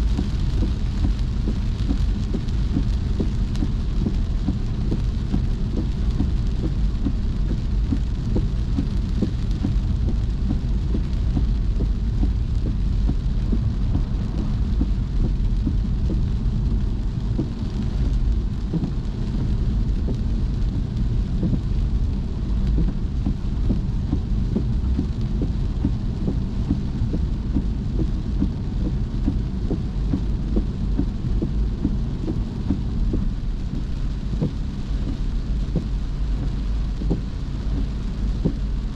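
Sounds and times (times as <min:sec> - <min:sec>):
rain drops hitting a car: 0:00.0 - 0:38.9
road and engine rumble: 0:00.0 - 0:38.9.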